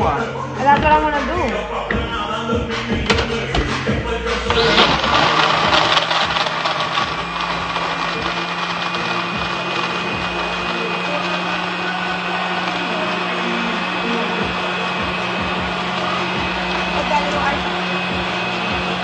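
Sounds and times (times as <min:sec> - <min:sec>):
drink machine grinding ice: 0:03.0 - 0:19.0.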